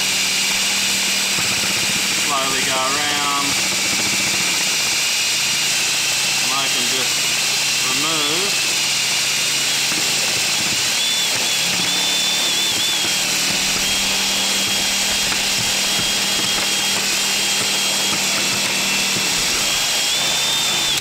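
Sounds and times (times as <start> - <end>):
cordless drill humming: 0.0 - 21.0.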